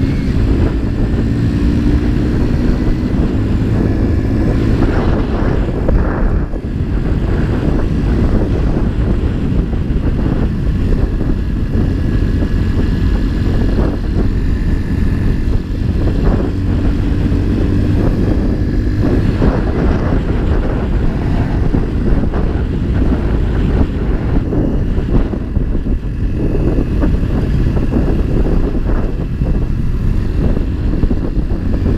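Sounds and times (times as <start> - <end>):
motorcycle engine running: 0.0 - 31.9
road and air noise: 0.0 - 31.9.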